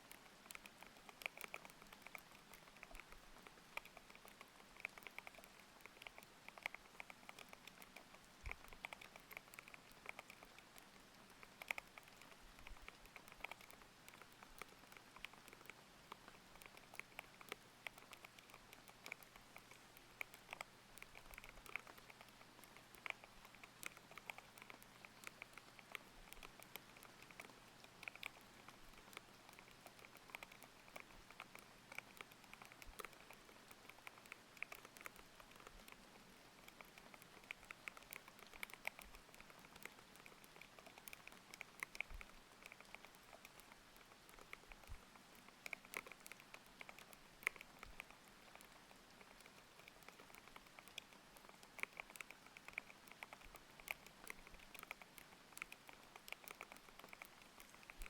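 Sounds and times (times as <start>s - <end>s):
mechanical keyboard typing: 0.0s - 58.0s.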